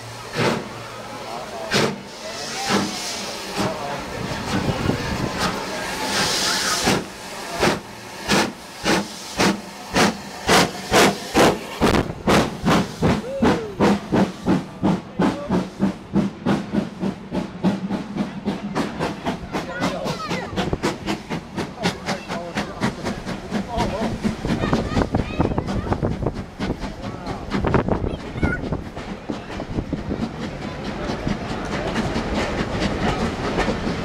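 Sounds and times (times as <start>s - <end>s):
hiss of escaping steam: 0.0s - 34.0s
steam locomotive exhaust chuffs: 0.0s - 34.0s.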